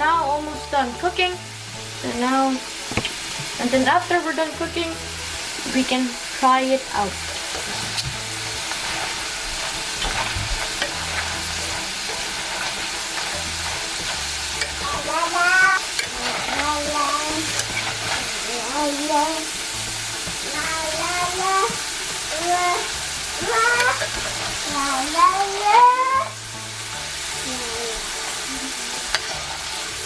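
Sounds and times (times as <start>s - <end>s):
fries sizzling in hot oil: 0.0s - 30.0s.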